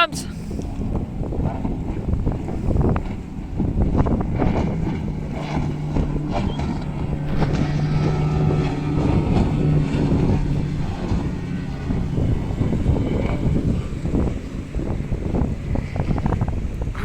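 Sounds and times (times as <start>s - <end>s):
powerboat engine droning: 0.0s - 17.0s
wind noise on microphone: 0.0s - 17.0s.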